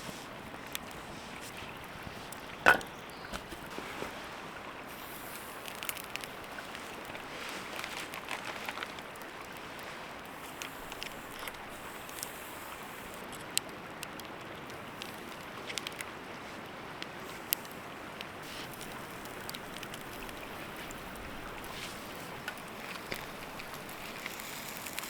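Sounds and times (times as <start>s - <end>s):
campfire crackling and popping: 0.0s - 3.8s, 4.9s - 16.2s, 16.9s - 25.0s.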